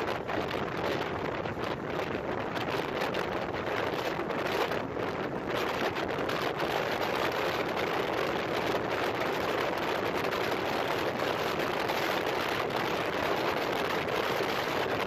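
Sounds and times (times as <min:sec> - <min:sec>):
motorcycle running: 0:00.0 - 0:15.0
wind rushing over microphone: 0:00.0 - 0:15.0.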